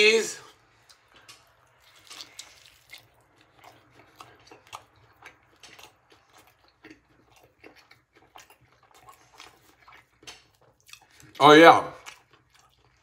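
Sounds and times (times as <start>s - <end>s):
chewing crispy food: 0.5s - 13.0s.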